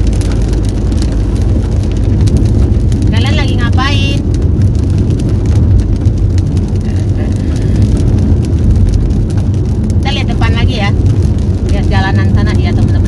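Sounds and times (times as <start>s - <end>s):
car road and engine rumble: 0.0s - 13.0s
rain ticking on car: 0.0s - 13.0s.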